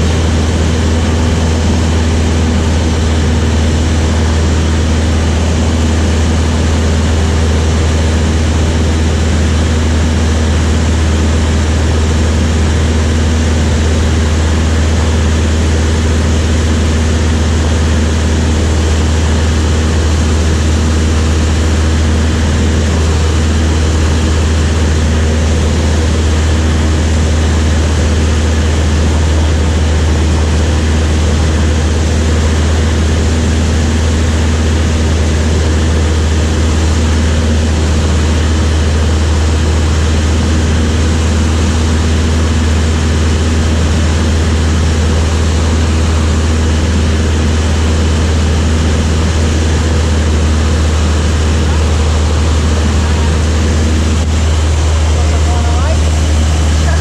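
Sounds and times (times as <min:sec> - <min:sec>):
propeller aircraft engine droning: 0:00.0 - 0:57.0.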